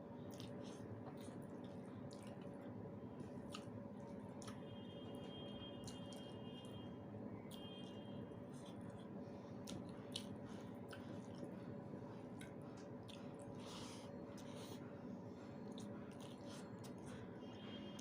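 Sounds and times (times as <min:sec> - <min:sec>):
steady low hum: 0:00.0 - 0:18.0
person chewing food: 0:00.2 - 0:06.4, 0:08.4 - 0:17.3.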